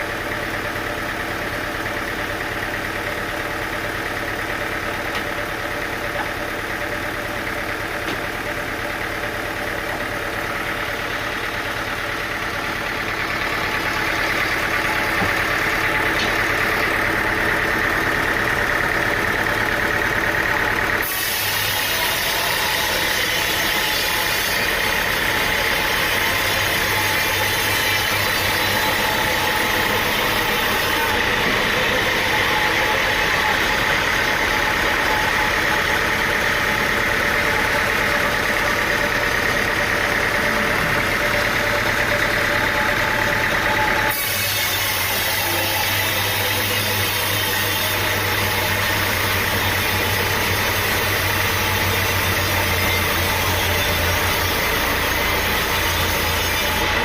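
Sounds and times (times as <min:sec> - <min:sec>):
motor running: 0:00.0 - 0:57.0.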